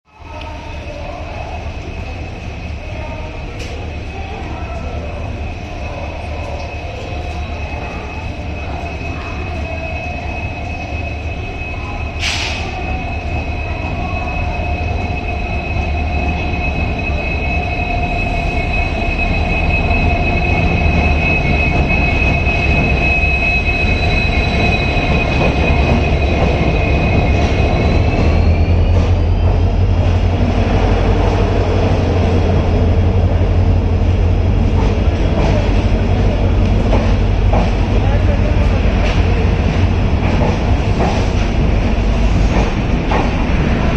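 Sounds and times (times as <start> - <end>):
deep locomotive engine rumble: 0.1 - 43.9
high-pitched whine: 0.3 - 43.9.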